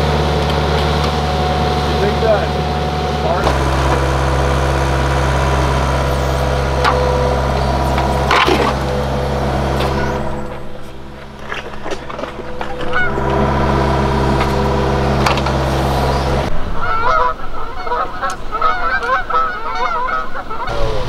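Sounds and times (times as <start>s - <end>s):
excavator engine idling: 0.0s - 19.8s
geese honking: 0.0s - 21.0s.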